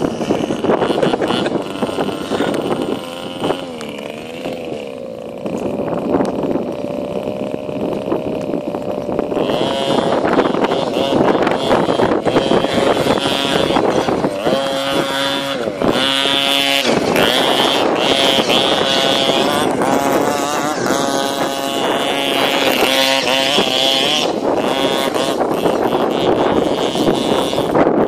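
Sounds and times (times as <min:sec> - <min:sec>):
small nitro engine revving: 0:00.0 - 0:28.0.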